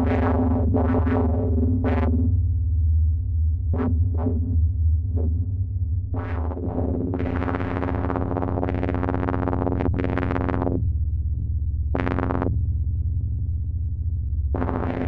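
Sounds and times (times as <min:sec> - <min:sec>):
low synthesizer drone: 0:00.0 - 0:15.0.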